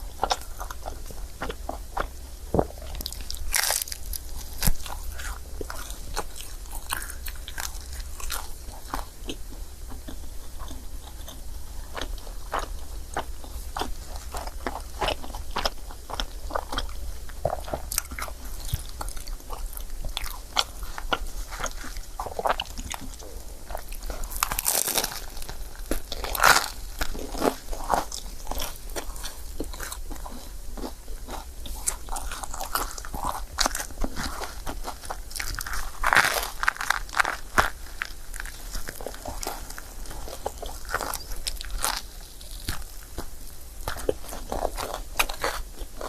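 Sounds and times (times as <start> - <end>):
chewing and mouth noises: 0.0 - 46.0.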